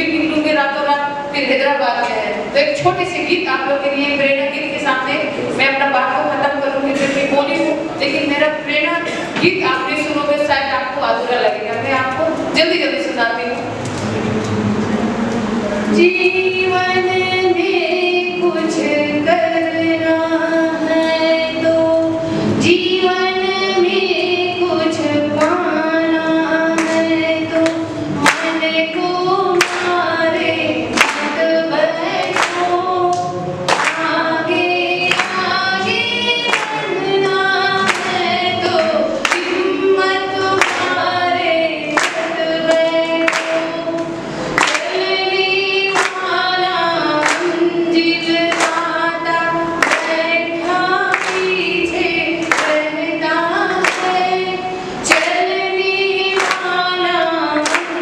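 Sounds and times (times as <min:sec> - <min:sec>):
woman singing into microphone: 0:00.0 - 0:13.8, 0:15.9 - 0:58.0.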